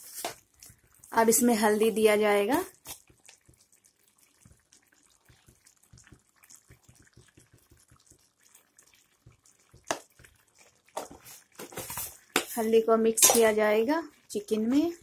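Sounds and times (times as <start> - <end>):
chicken bubbling and popping in oil: 0.0 - 15.0.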